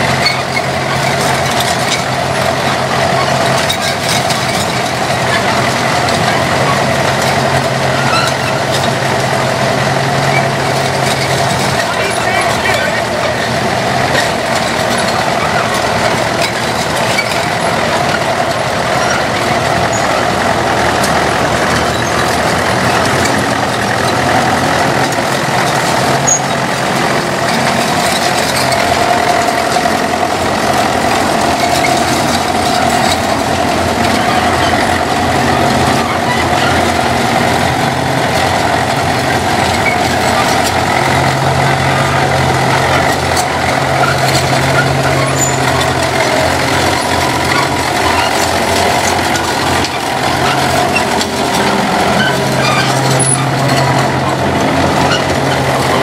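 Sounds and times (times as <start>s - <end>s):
diesel crawler tractor engines running: 0.0s - 56.0s.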